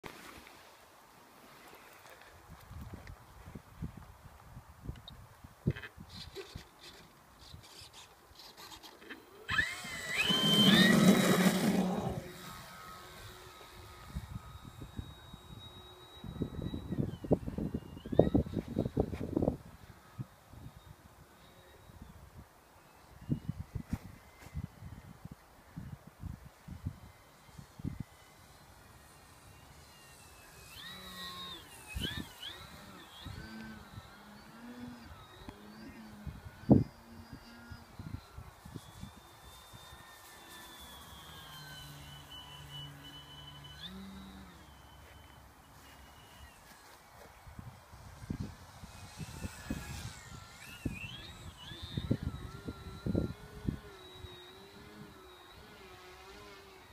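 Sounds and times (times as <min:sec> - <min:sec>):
model plane propeller noise: 0:01.4 - 0:56.9
electric motor whine: 0:05.7 - 0:56.9.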